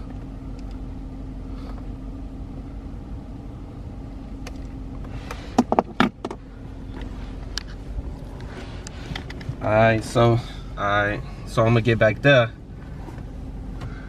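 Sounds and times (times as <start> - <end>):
low hum inside a car: 0.0 - 14.0.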